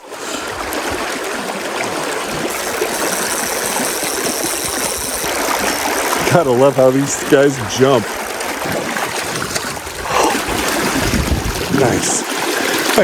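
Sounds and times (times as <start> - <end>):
river current rushing: 0.1 - 13.0.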